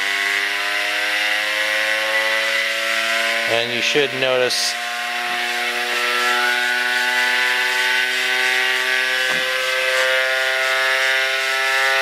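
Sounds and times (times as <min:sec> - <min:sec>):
electric motor buzzing: 0:00.0 - 0:12.0.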